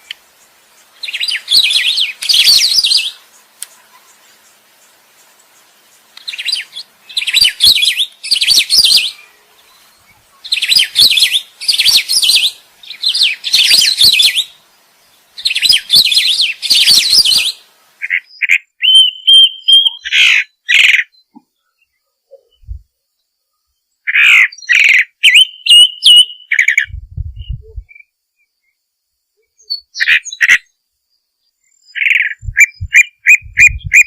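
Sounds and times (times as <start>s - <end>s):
songbird song: 0.0s - 34.0s.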